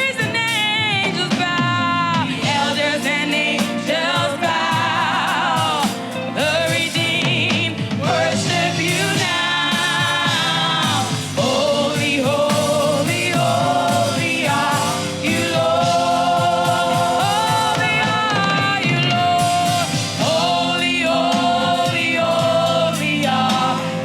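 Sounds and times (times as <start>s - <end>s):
band with steady beat: 0.0s - 24.0s
choir singing gospel: 0.0s - 24.0s.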